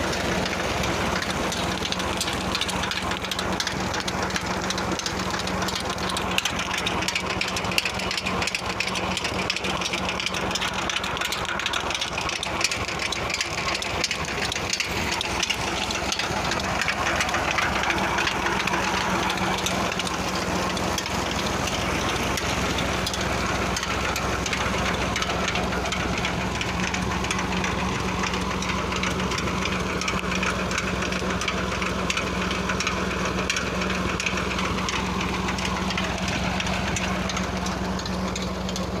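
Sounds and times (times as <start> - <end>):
tractor engine running steadily: 0.0 - 39.0
water pouring from pipe: 0.0 - 39.0.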